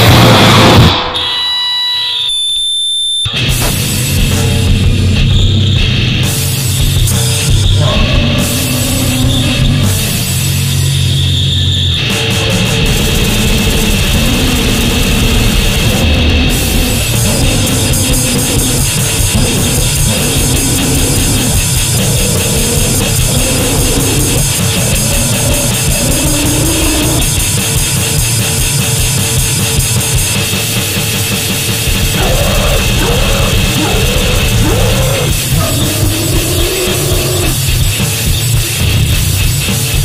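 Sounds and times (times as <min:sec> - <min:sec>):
distorted goregrind noise music: 0:00.0 - 0:01.5, 0:03.3 - 0:40.0.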